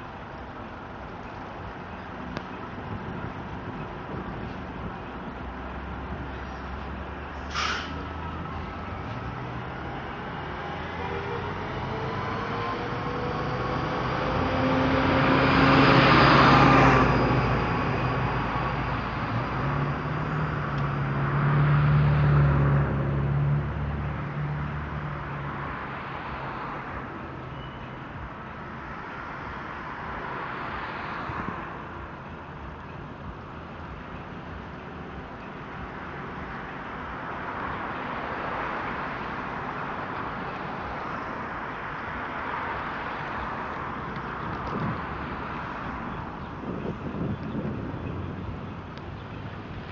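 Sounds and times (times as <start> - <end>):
heavy vehicle engine hum: 0.0 - 49.9
vehicles passing: 0.0 - 49.9.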